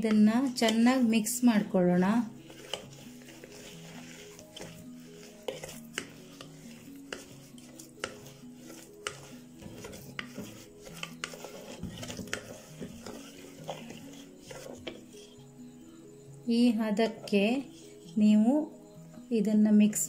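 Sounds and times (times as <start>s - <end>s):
ladle stirring thick batter: 0.0s - 15.6s, 16.9s - 18.2s
soft background music: 0.0s - 20.0s.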